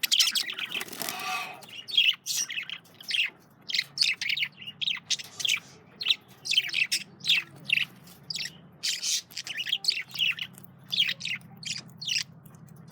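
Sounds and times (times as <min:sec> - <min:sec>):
budgerigars chirping and warbling: 0:00.0 - 0:12.9
faint low hum: 0:00.0 - 0:12.9.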